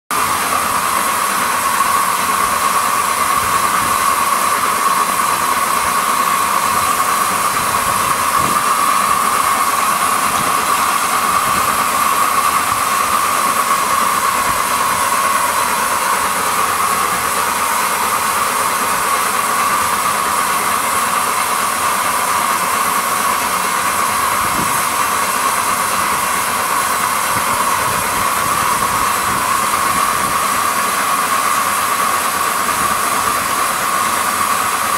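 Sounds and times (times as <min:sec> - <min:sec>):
steam locomotive rushing hiss: 0:00.1 - 0:34.9.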